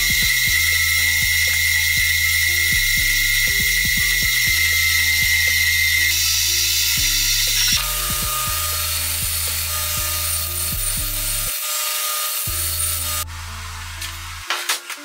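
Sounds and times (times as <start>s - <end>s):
background music with bass line: 0.0s - 11.5s, 12.5s - 14.6s
belt grinder hissing: 0.0s - 13.3s.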